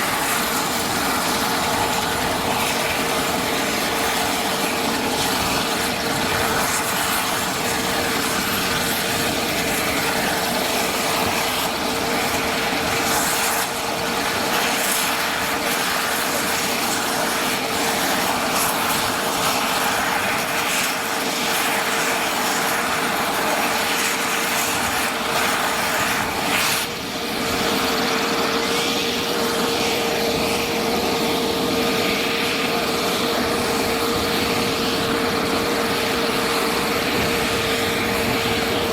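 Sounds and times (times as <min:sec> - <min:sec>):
helicopter engine whine: 0:00.0 - 0:38.9.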